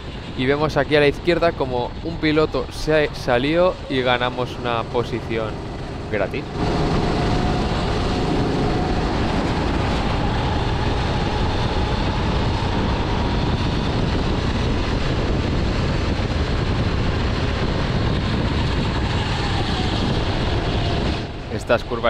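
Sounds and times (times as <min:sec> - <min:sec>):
rushing wind noise: 0:00.0 - 0:22.0
kart engine running hard: 0:03.7 - 0:21.5.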